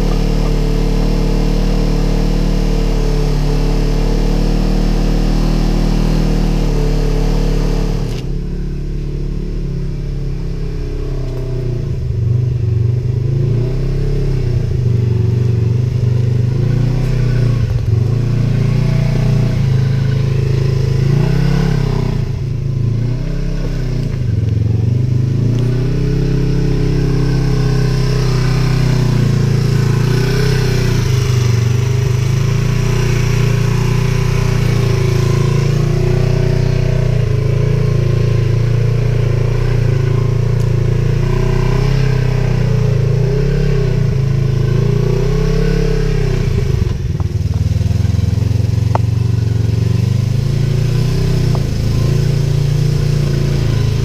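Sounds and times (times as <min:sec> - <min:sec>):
engine running under load: 0:00.0 - 0:54.0.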